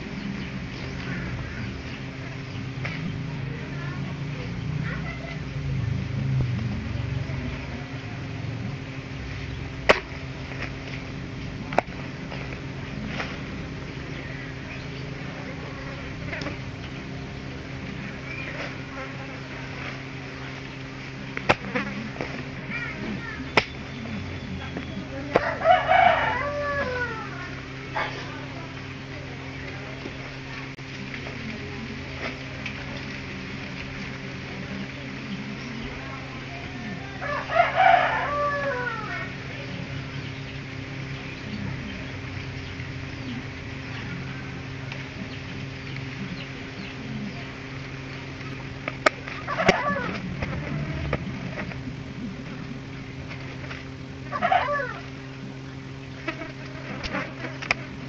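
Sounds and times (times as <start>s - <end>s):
birds chirping: 0.0s - 58.0s
chickens clucking: 0.0s - 58.0s
steady low hum: 0.0s - 58.0s.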